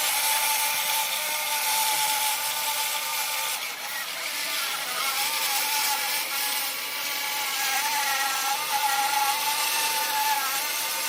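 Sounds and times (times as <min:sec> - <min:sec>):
power saw cutting wood: 0:00.0 - 0:11.0.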